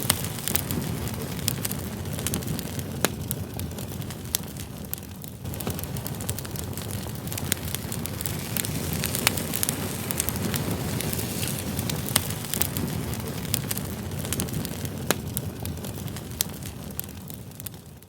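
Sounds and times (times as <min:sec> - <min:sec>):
campfire crackling and popping: 0:00.0 - 0:18.0
low rush of flame: 0:00.0 - 0:18.0.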